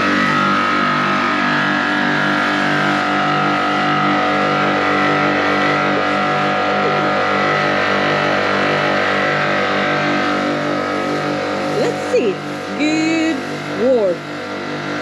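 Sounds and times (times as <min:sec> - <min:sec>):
pressure washer whine: 0:00.0 - 0:15.0.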